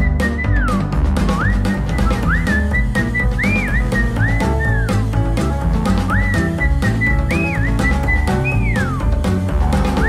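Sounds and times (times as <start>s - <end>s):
drums and bass line: 0.0s - 10.0s
whistled melody: 0.0s - 10.0s.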